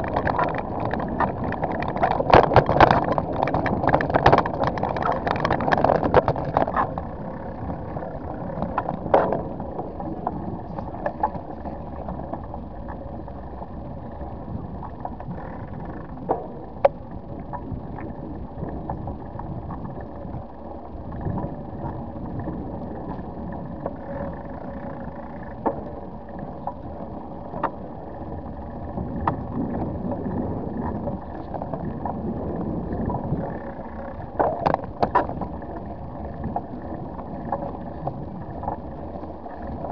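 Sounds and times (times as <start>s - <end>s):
bicycle tyres rumbling on asphalt: 0.0s - 39.9s
faint steady whine: 0.0s - 39.9s.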